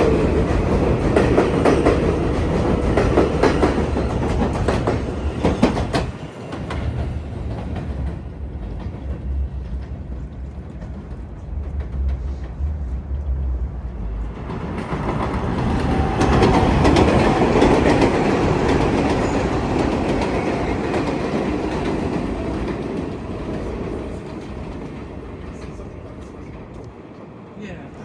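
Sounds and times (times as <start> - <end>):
elevated train passing: 0.0 - 28.0.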